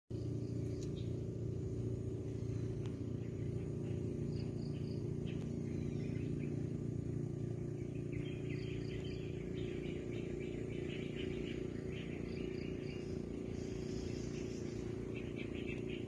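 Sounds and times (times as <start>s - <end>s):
steady low hum: 0.1s - 16.0s.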